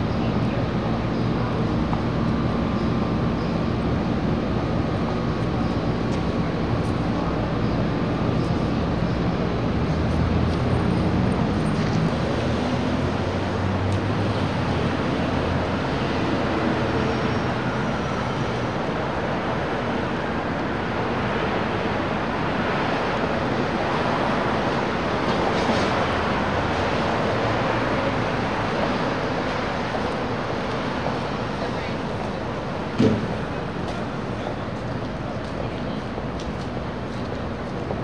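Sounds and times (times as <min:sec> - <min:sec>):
city street traffic: 0:00.0 - 0:38.0.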